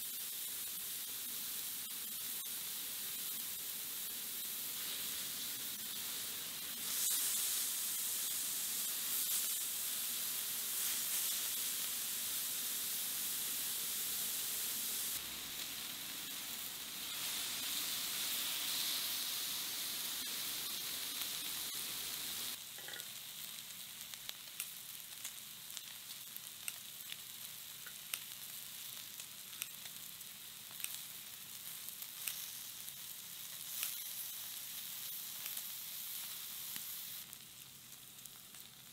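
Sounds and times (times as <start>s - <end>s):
meat sizzling on grill pan: 0.0s - 38.9s.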